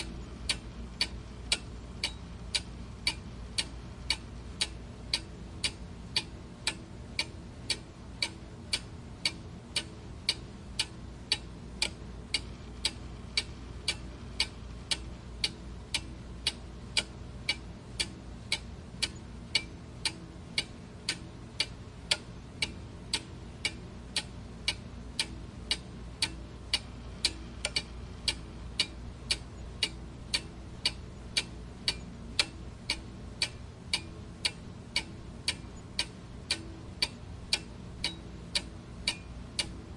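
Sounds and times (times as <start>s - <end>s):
clock ticking: 0.0s - 39.8s.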